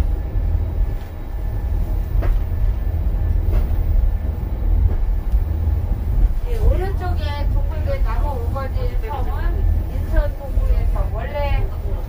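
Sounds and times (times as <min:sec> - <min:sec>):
monorail car rumbling: 0:00.0 - 0:12.0.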